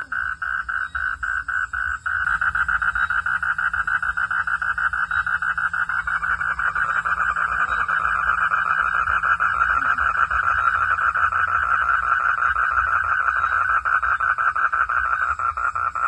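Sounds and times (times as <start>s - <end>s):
frogs calling in pulses: 0.0s - 16.0s.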